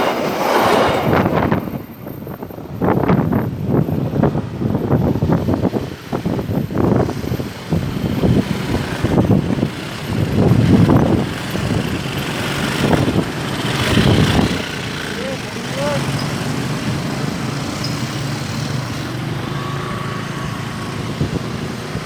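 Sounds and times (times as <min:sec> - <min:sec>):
road vehicles rumbling past: 0:02.6 - 0:22.0.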